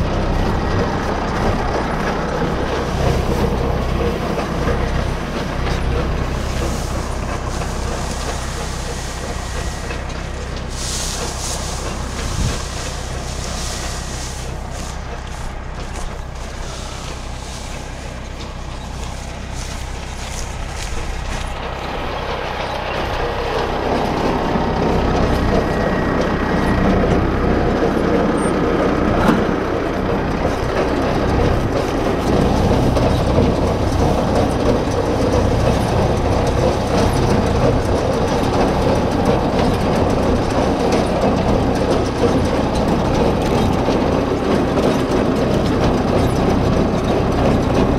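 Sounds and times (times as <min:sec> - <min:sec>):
tractor engine and baler machinery: 0:00.0 - 0:47.9.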